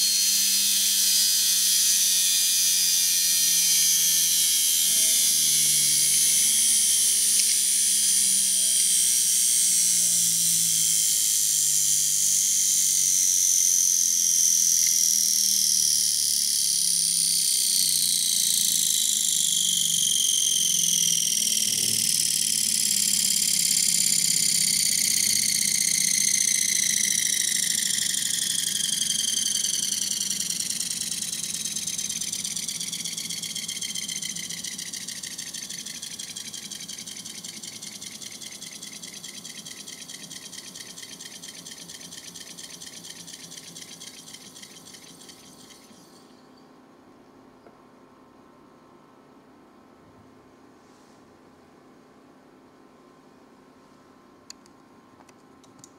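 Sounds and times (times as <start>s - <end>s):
electric motor whine slowing down: 0.0s - 46.3s.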